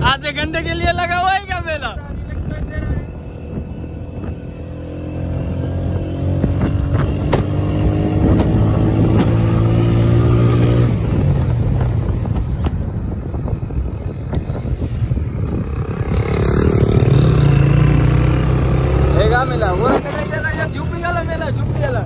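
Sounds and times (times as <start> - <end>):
motorcycle engine running: 2.0 - 21.4.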